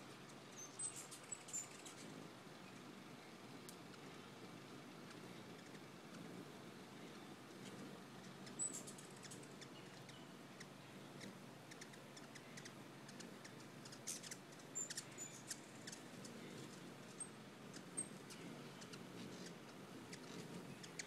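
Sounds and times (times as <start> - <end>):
hummingbird chips: 0.0 - 21.0
soft outdoor background: 0.0 - 21.0.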